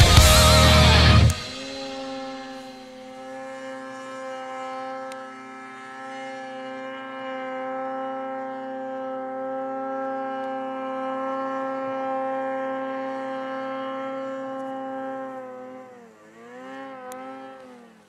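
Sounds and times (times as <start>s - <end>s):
snowmobile engine at high revs: 0.0s - 18.0s.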